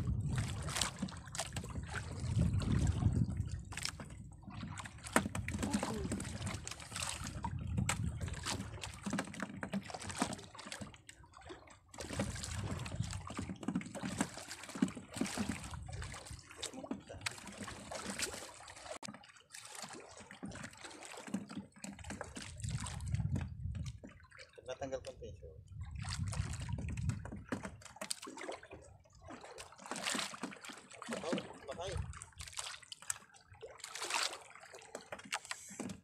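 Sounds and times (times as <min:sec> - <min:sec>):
water sloshing against boat hull: 0:00.0 - 0:36.0.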